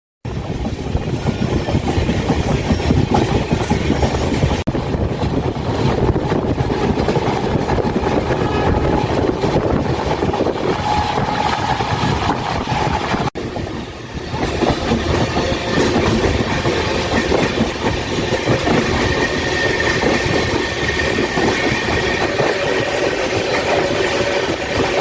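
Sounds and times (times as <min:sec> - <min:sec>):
train wheels clattering on rails: 0:00.3 - 0:25.0.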